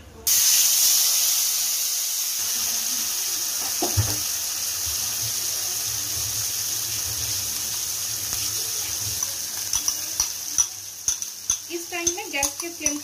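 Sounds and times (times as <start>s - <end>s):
paste sizzling in hot oil: 0.3s - 13.0s.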